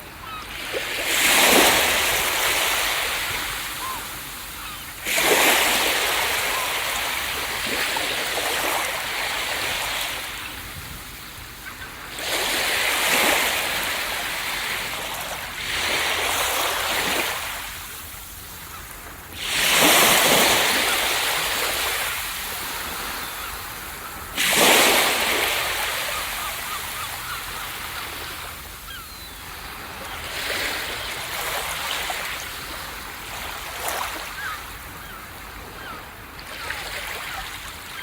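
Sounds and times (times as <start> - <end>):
ocean waves breaking on beach: 0.0 - 38.0.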